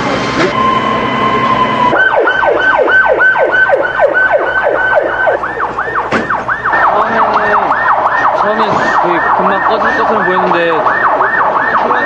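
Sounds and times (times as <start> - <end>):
siren in slower rising sweeps: 0.5 - 12.0
siren in rapid falling sweeps: 0.6 - 12.0.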